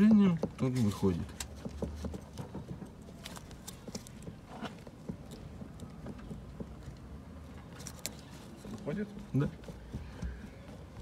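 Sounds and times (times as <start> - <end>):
light clicks and knocks of tools: 0.0 - 10.8.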